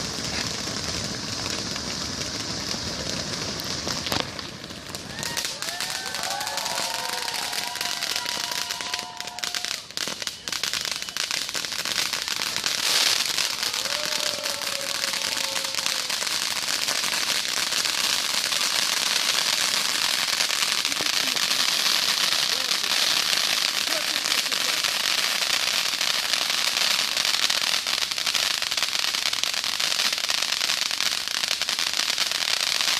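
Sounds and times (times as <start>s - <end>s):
fireworks crackling: 0.0s - 32.9s.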